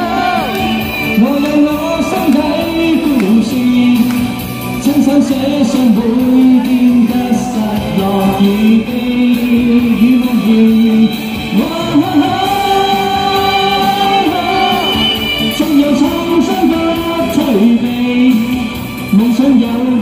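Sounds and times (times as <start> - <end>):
backing music: 0.0 - 20.0
person singing: 0.0 - 20.0.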